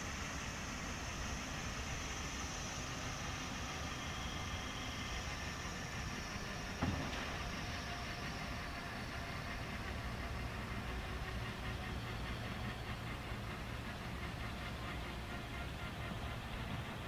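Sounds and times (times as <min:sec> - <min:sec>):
helicopter turbine engines running down: 0:00.0 - 0:17.0.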